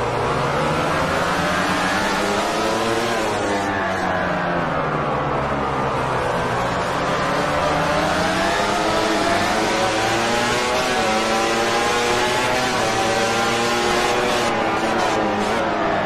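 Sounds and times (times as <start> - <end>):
racing motorcycle engine revving: 0.0 - 4.0, 6.8 - 15.8.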